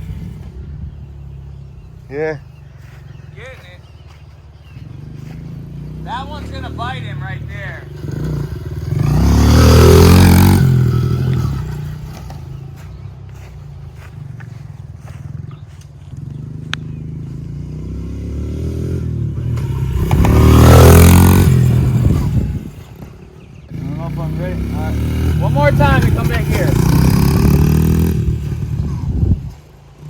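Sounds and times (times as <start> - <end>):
dirt bike engine passing: 0.0 - 30.0.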